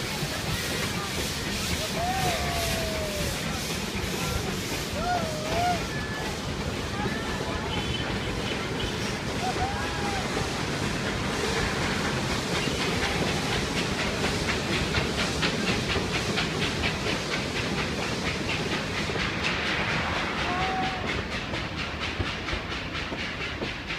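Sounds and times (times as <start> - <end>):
train carriages rolling past: 0.0 - 23.9.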